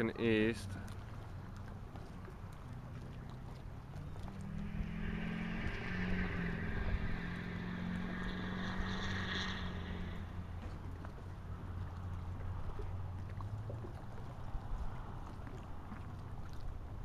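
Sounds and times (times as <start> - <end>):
engine passing by: 0.0 - 16.6
constant low rumble: 0.0 - 17.0.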